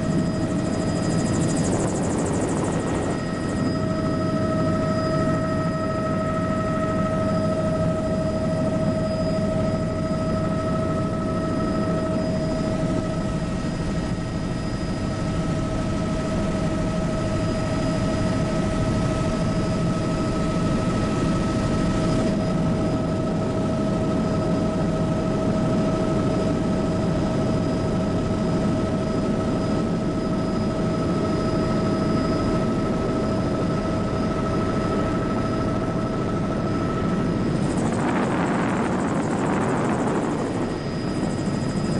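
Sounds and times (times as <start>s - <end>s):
helicopter rotor and engine rumble: 0.0s - 41.9s
high turbine whine: 0.0s - 41.9s.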